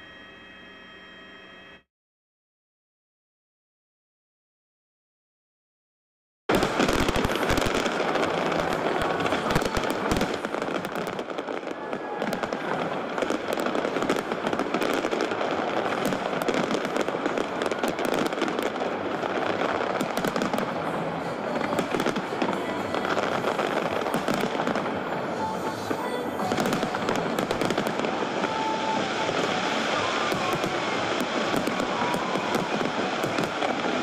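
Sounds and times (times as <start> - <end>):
fireworks crackles pops and bangs: 6.5 - 34.0.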